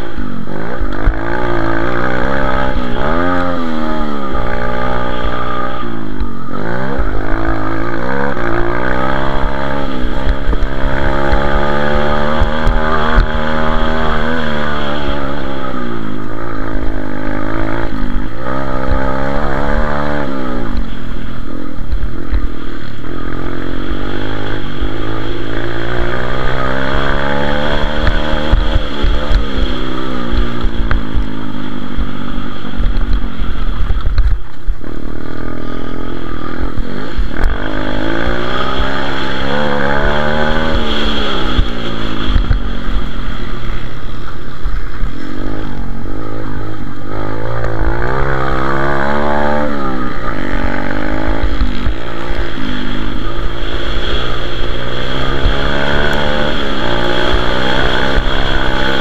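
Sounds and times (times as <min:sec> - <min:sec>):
pit bike engine revving: 0:00.0 - 0:59.0.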